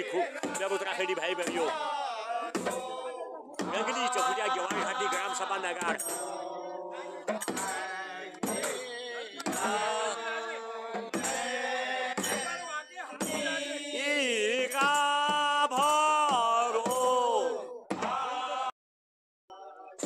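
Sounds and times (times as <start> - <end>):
men singing together: 0.0 - 18.8
dhol drum beats: 0.3 - 18.2.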